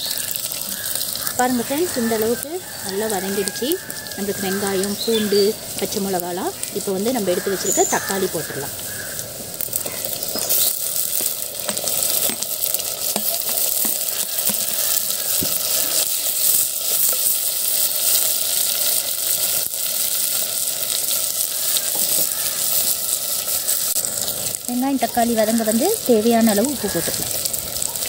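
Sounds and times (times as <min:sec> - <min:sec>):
tomatoes sizzling in hot oil: 0:00.0 - 0:28.0
stirring in a clay pot: 0:00.2 - 0:23.2.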